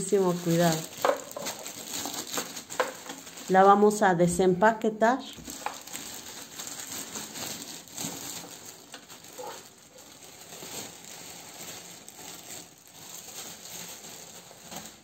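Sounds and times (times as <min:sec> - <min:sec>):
packaging crinkling: 0:00.0 - 0:04.0, 0:05.2 - 0:15.0.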